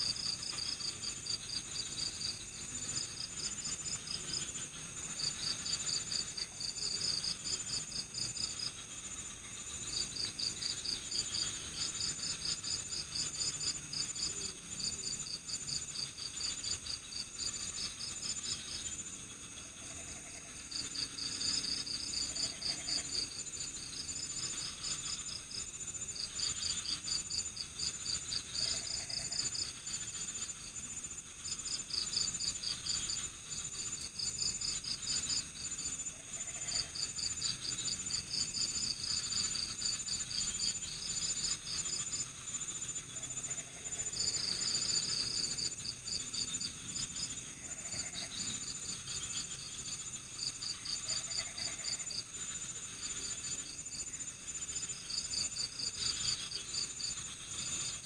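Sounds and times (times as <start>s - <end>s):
crickets chirping: 0.0s - 58.0s
high-pitched insect trill: 0.0s - 58.0s.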